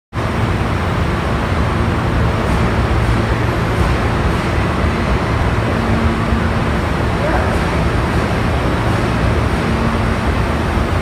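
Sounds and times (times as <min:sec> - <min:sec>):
low hum: 0:00.2 - 0:11.0
subway train wheels rumbling: 0:00.2 - 0:11.0.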